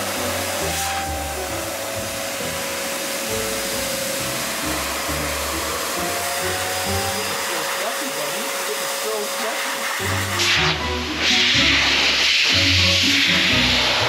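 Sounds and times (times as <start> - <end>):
pet dryer blowing air: 0.0 - 14.0.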